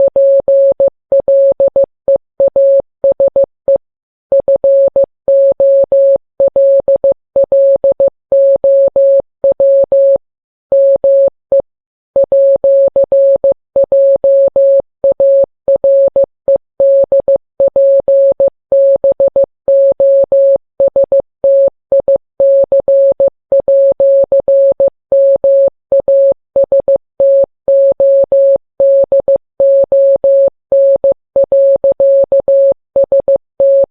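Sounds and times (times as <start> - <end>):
morse code beeps: 0.0 - 11.6, 12.2 - 33.9.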